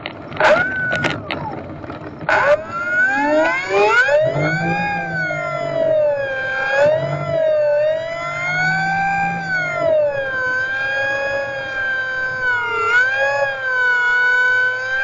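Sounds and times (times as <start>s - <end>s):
model plane motor whining: 0.1s - 15.0s.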